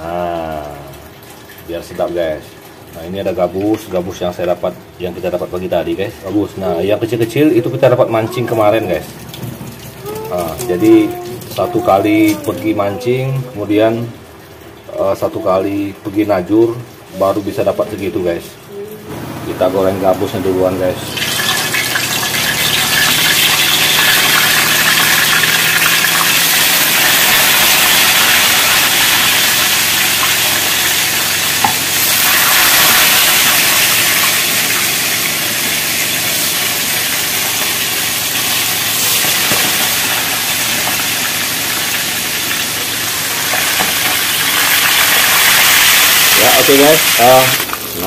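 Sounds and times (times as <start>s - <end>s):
fish frying in hot oil: 0.0s - 48.0s.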